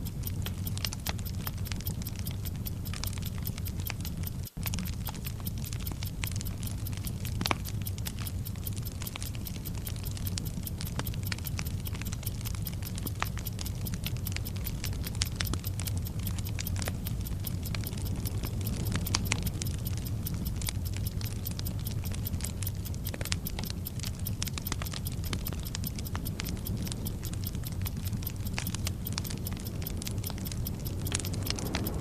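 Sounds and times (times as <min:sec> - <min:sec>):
fast clock ticking: 0:00.0 - 0:32.0
low rumble: 0:00.0 - 0:32.0
burning fuse hissing: 0:02.7 - 0:32.0.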